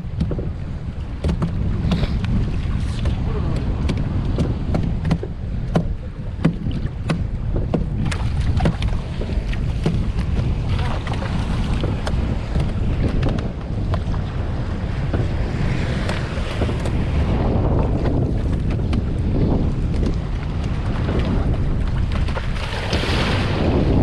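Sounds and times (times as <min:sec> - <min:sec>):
low rumble of boat and sea: 0:00.0 - 0:24.0
wind buffeting microphone: 0:00.0 - 0:24.0.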